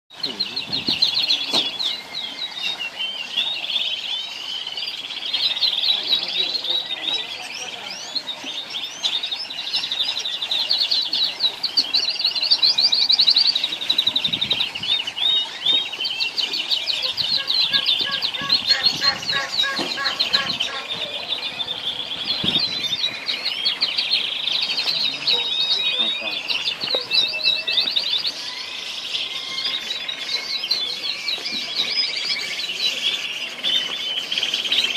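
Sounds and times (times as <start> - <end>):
canaries chirping and trilling: 0.1 - 34.9.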